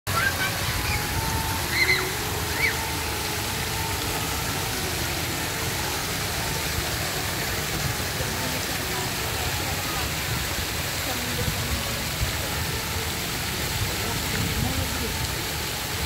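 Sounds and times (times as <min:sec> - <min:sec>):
fountain water splashing: 0:00.1 - 0:16.0.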